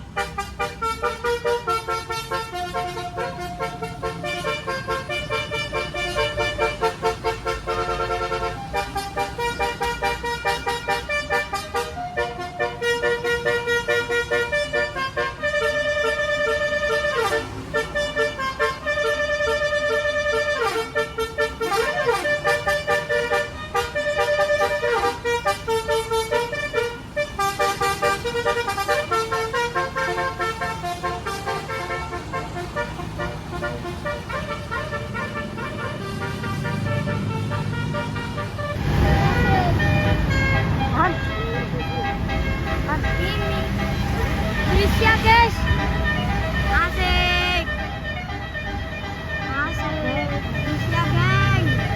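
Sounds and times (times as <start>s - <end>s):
bus air horn melody: 0.0s - 51.9s.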